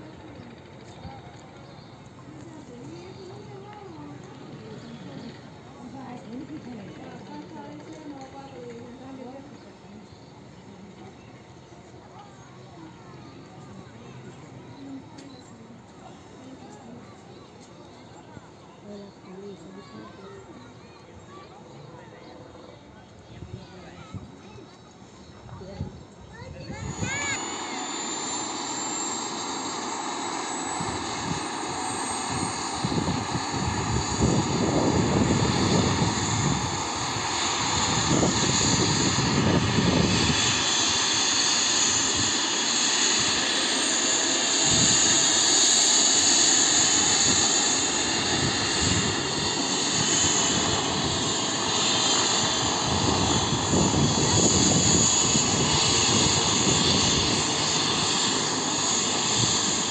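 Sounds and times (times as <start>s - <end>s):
helicopter rotor noise: 0.0s - 59.9s
helicopter turbine whine: 0.0s - 59.9s.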